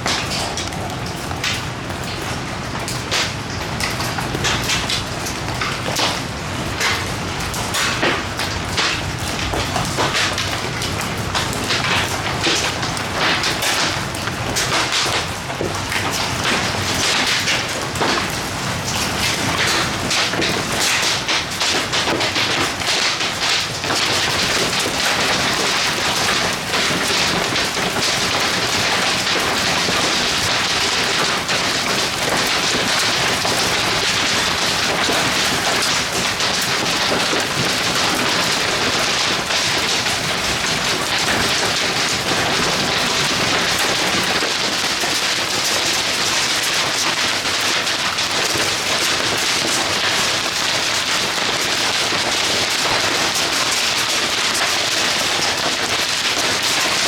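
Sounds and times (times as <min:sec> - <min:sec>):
hail and rain pelting: 0:00.0 - 0:57.0.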